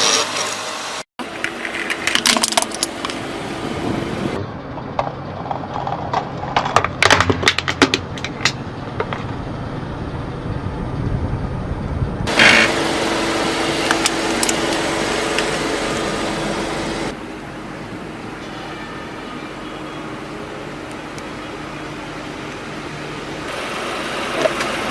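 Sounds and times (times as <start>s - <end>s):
low car noise: 1.2s - 24.9s.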